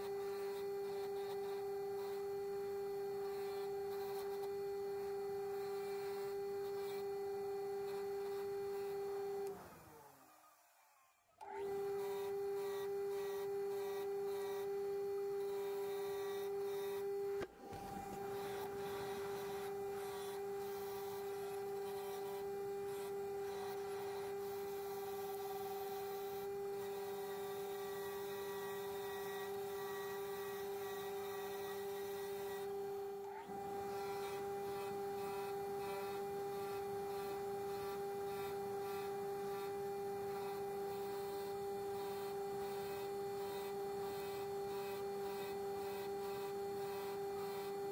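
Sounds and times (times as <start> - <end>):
bench grinder motor hum: 0.0 - 10.2, 11.4 - 47.9.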